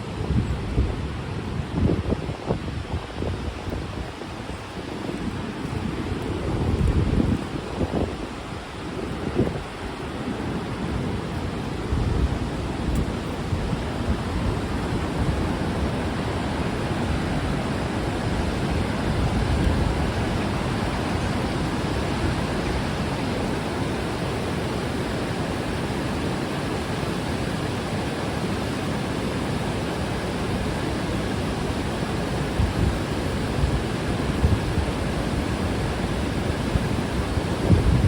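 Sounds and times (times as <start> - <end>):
river water rushing over rocks: 2.8 - 37.8.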